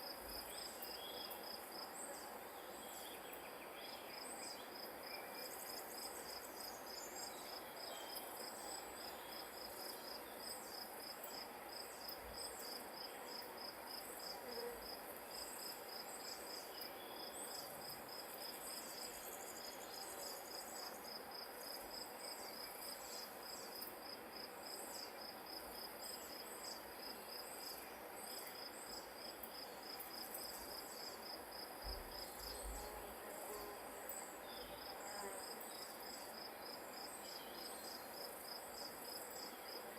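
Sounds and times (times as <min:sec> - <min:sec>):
crickets chirping: 0:00.0 - 0:39.9
soft background hiss: 0:00.0 - 0:39.9.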